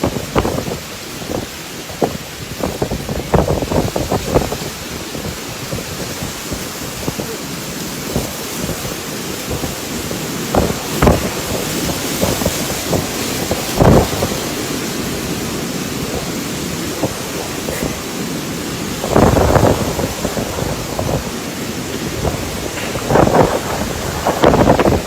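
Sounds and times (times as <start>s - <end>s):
gusts thumping microphone: 0.0s - 25.0s
storm wind rushing: 0.0s - 25.0s.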